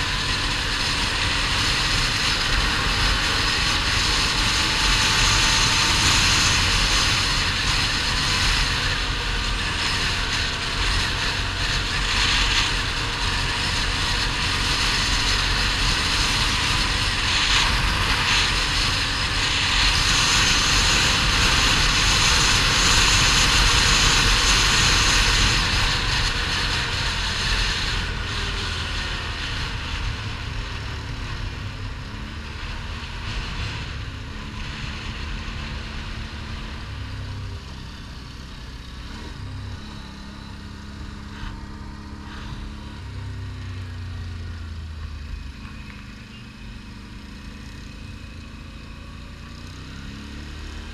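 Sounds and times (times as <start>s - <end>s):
wind rushing on microphone: 0.0s - 44.4s
atv engine running: 0.0s - 50.9s.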